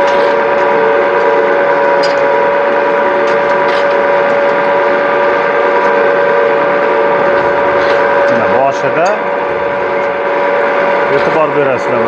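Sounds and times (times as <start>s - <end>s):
extruder motor whining: 0.0s - 12.0s.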